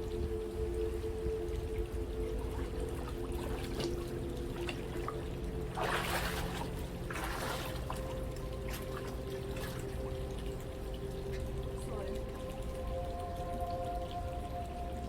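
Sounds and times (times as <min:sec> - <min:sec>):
steady low hum: 0:00.0 - 0:15.0
water trickling and splashing: 0:00.0 - 0:15.0.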